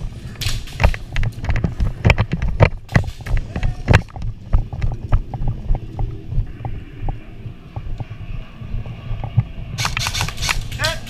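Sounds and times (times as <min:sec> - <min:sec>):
low thumps and rumble: 0:00.0 - 0:11.0.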